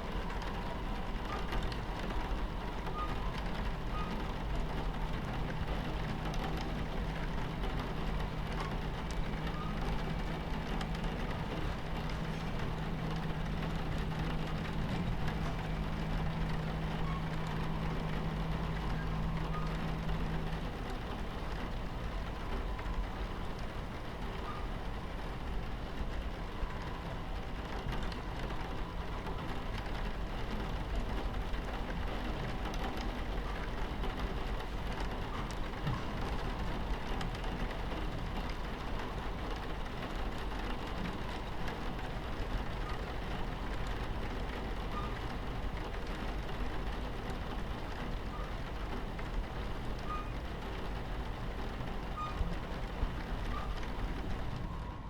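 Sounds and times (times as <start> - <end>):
rain pattering on window: 0.0 - 55.0
train rumbling along track: 0.0 - 55.0.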